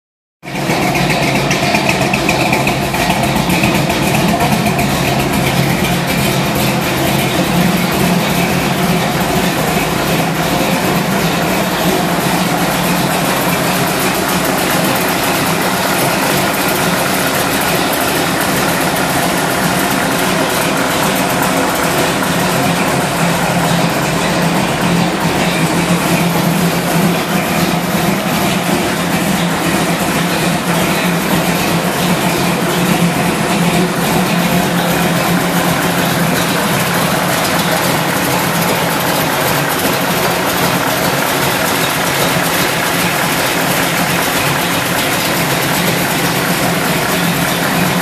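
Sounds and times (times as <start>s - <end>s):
car engine idling: 0.4s - 48.0s.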